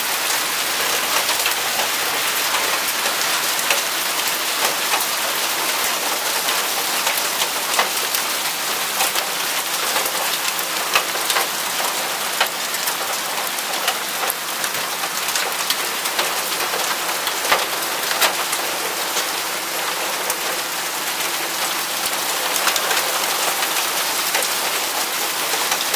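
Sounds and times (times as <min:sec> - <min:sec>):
heavy rain pouring: 0:00.0 - 0:25.9.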